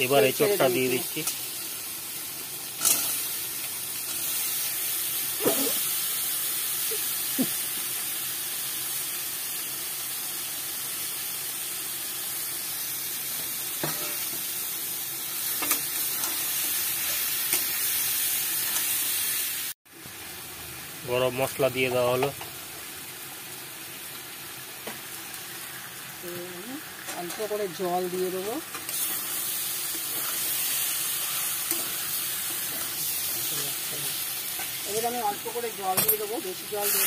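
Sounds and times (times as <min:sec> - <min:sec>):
food frying in hot oil: 0:00.0 - 0:37.0.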